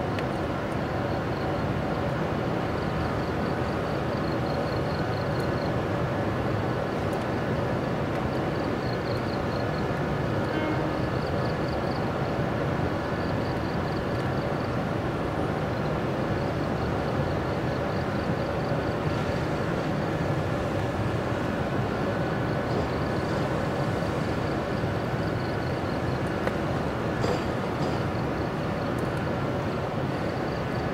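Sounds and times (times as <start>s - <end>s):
steady mechanical hum: 0.0s - 30.9s.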